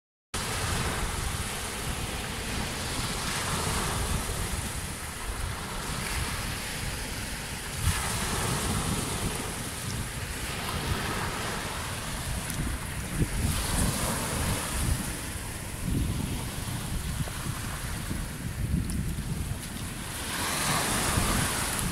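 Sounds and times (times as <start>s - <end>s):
surf on sandy beach: 0.4s - 21.9s
wind buffeting microphone: 0.4s - 21.9s.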